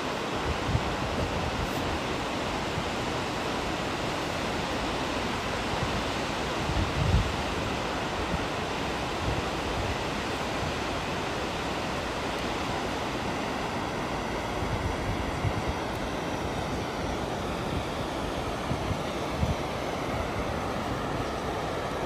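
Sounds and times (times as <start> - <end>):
waterfall rushing: 0.0 - 22.0
wind buffeting microphone: 0.1 - 3.5, 5.2 - 22.0.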